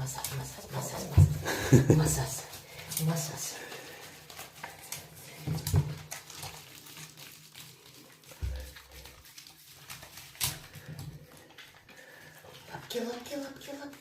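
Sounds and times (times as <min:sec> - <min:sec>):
wet rubbing noises: 0:00.0 - 0:14.0.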